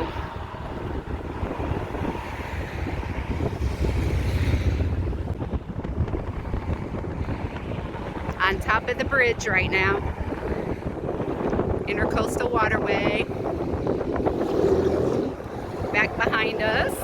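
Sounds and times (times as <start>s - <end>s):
traffic passing over bridge: 0.0s - 17.0s
wind buffeting microphone: 0.0s - 17.0s.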